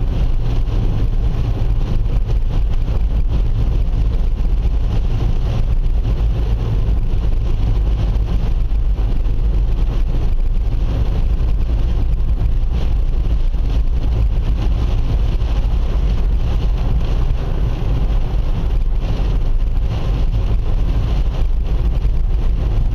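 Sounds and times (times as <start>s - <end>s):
car driving in rain: 0.0s - 22.9s.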